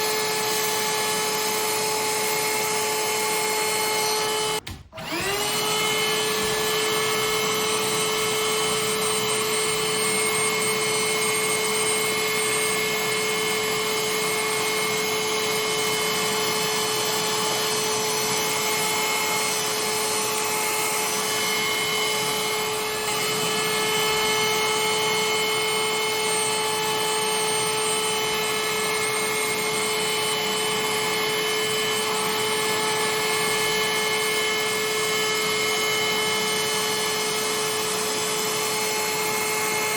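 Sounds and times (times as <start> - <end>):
hand-held vacuum cleaner running: 0.0 - 39.9.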